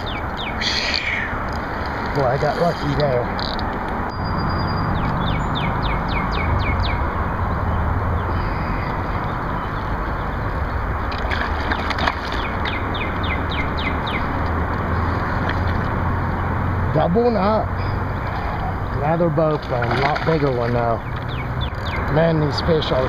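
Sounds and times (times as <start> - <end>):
outdoor noise rush: 0.0 - 23.0.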